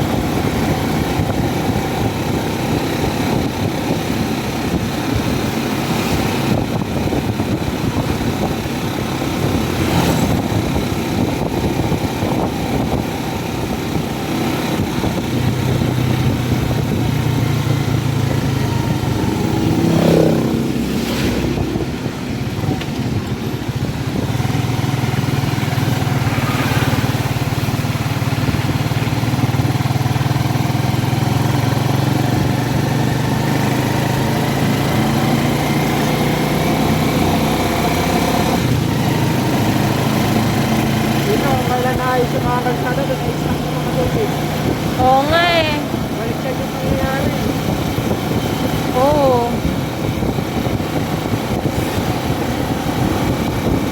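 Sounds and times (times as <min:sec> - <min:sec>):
road noise: 0:00.0 - 0:53.9
vehicle engine running: 0:00.0 - 0:53.9.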